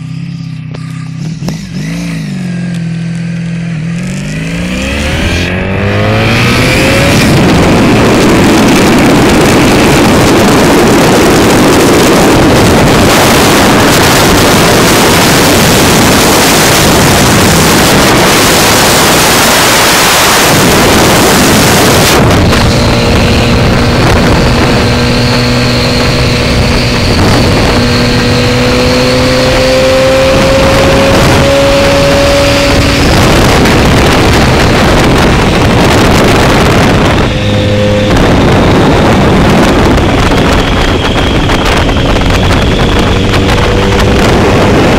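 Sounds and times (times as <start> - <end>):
motorcycle engine running: 0.0 - 44.9
wind buffeting microphone: 4.7 - 44.9.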